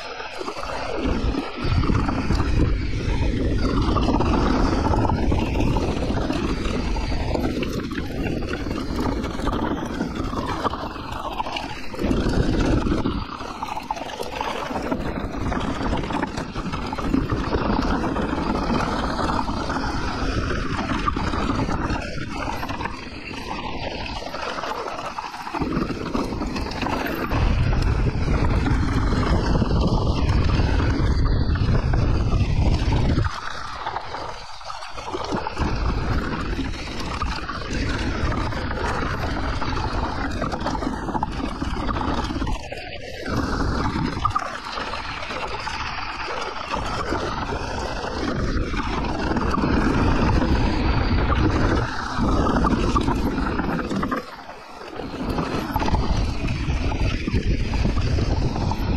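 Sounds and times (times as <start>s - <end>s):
bike tyre and trail noise: 0.0s - 58.9s
wind buffeting microphone: 0.0s - 58.9s.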